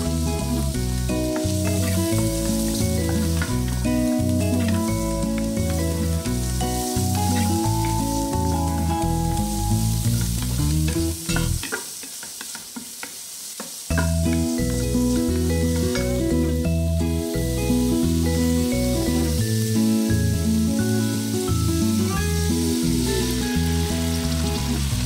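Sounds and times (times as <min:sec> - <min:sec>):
background music with bass line: 0:00.0 - 0:11.6, 0:13.9 - 0:25.0
meat sizzling in a pan: 0:00.0 - 0:25.0.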